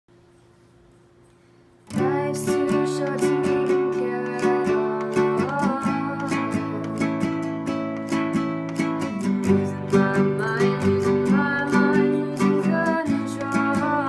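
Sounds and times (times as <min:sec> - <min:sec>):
faint hum: 0:00.1 - 0:14.0
acoustic guitar strumming: 0:01.8 - 0:14.0.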